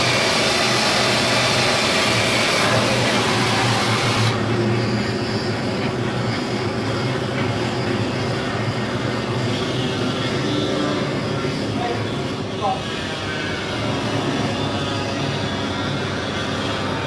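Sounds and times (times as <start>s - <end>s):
machinery drone: 0.0s - 17.0s.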